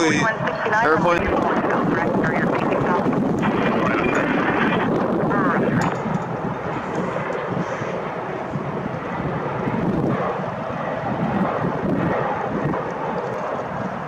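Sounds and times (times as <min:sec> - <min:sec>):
jet engine rushing: 0:00.0 - 0:14.0
wind buffeting microphone: 0:00.0 - 0:14.0.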